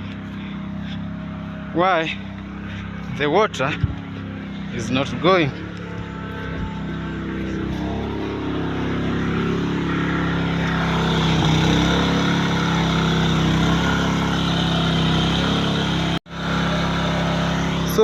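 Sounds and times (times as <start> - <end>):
water pump engine humming: 0.0 - 18.0.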